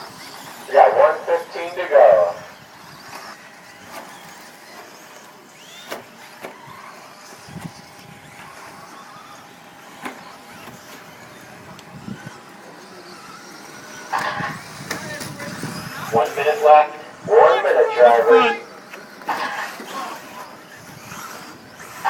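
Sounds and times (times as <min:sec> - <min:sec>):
toy cars running hum: 0:00.0 - 0:22.0.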